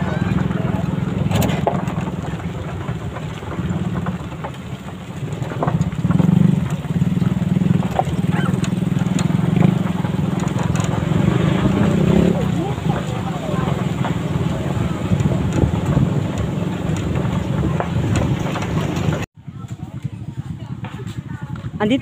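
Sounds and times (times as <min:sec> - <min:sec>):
motorcycle engines droning: 0:00.0 - 0:22.0.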